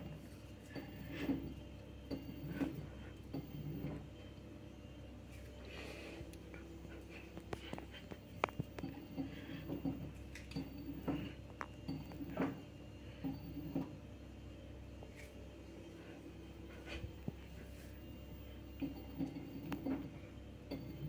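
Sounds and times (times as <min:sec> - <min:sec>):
washing machine motor hum: 0:00.0 - 0:21.0.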